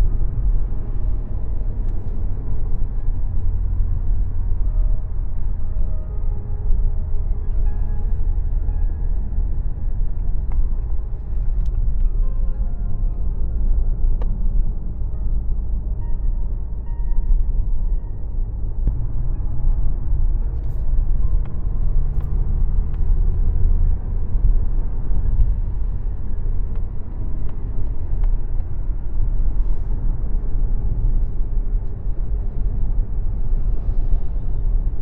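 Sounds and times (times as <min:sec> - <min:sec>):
car engine rumble and road noise: 0:00.0 - 0:35.0.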